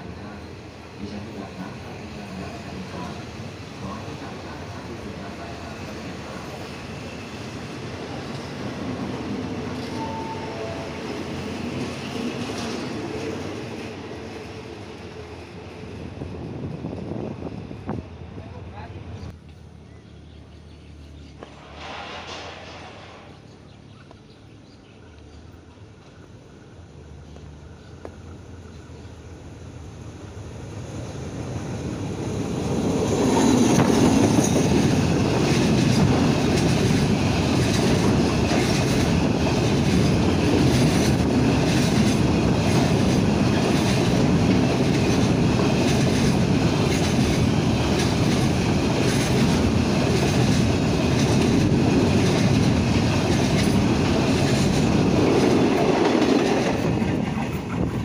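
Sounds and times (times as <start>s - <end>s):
diesel locomotive: 0.0s - 58.0s.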